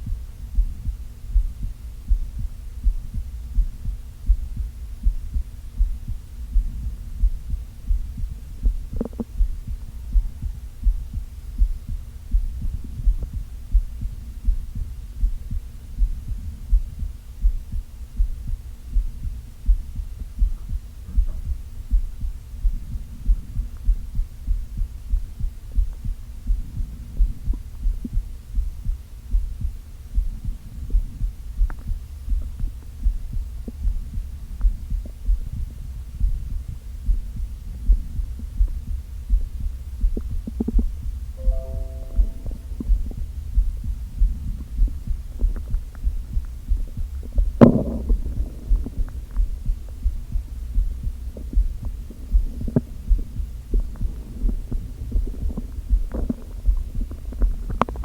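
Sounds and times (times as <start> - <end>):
heartbeat thumps: 0.0 - 58.0
steady low hum: 0.0 - 58.0.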